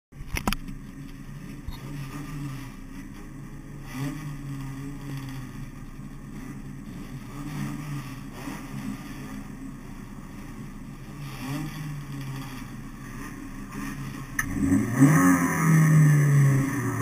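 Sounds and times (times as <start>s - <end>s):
car engine idling: 0.2s - 17.0s.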